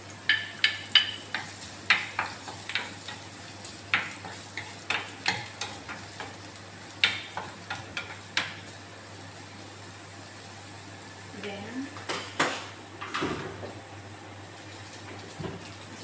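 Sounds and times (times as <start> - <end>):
faint sizzle: 0.0 - 16.0.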